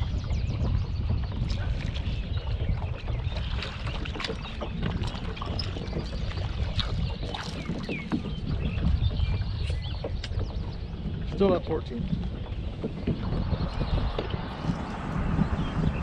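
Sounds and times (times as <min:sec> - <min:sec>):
waves lapping against boat hull: 0:00.0 - 0:16.0
wind rumbling on microphone: 0:00.0 - 0:16.0
water splashes: 0:01.1 - 0:16.0.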